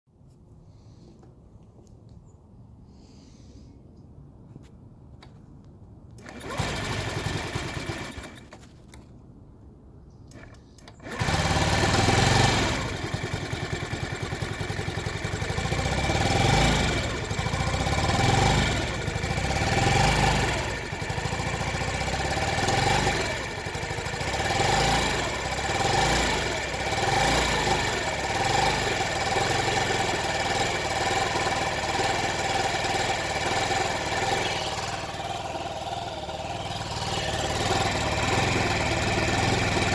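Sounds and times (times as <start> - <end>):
scooter engine cranking and running rough: 6.2 - 9.0, 10.3 - 39.9.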